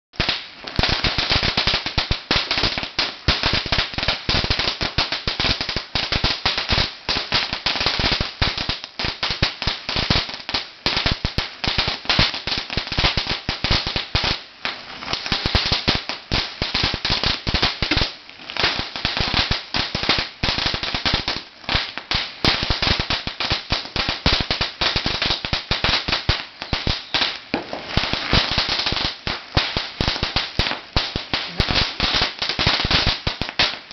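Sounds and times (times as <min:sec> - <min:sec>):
firecrackers going off: 0:00.2 - 0:33.9.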